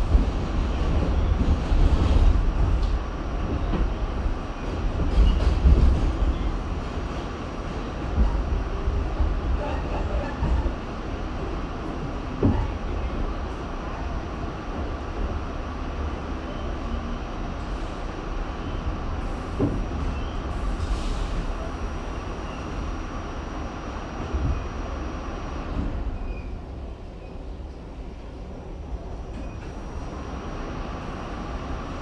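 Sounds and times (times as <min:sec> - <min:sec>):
subway train rumbling on rails: 0:00.0 - 0:32.0.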